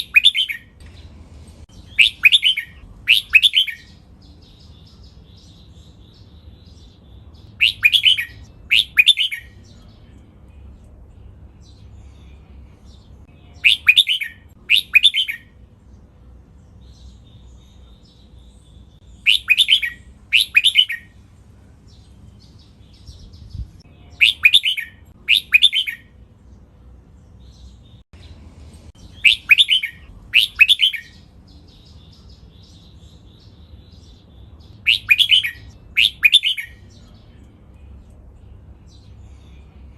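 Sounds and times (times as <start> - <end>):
bird song phrases: 0.0 - 39.9
soft bird chirps: 0.0 - 39.9.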